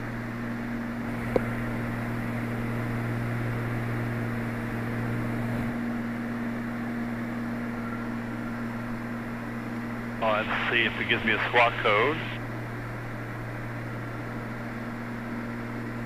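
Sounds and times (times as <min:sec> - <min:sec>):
propeller plane engines droning: 0:00.0 - 0:16.0.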